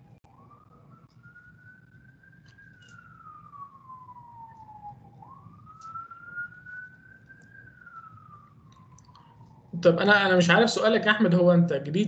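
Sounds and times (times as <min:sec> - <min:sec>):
faint siren wailing: 0:00.0 - 0:12.0.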